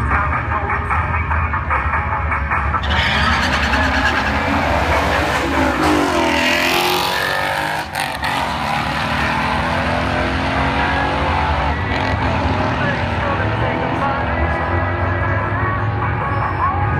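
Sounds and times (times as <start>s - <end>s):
racing car engines at full throttle: 2.6s - 16.9s.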